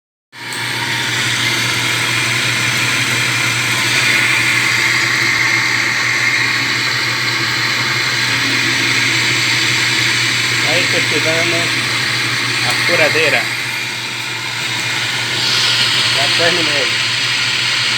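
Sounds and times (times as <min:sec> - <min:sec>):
electric drill running: 0:00.4 - 0:17.9.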